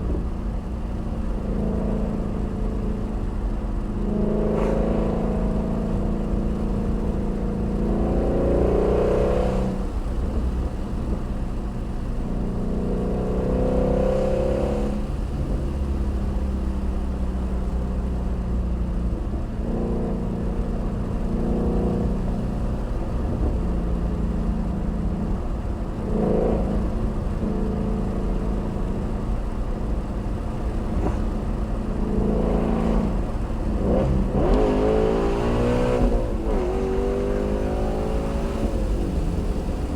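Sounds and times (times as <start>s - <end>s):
car engine droning and revving: 0.0s - 39.9s.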